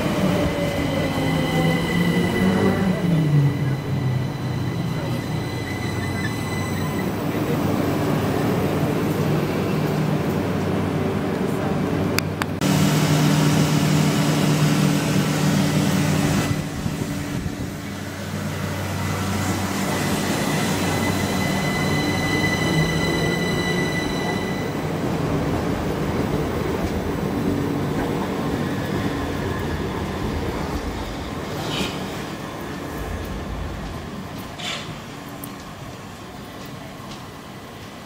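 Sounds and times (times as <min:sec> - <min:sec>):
train high whine: 0:00.0 - 0:38.0
wheel on rail noise: 0:00.0 - 0:38.0.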